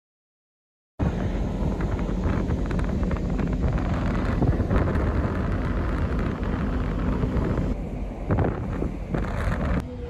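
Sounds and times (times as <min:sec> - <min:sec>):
low rumble of ship: 0:01.0 - 0:10.0
wind buffeting microphone: 0:01.0 - 0:10.0.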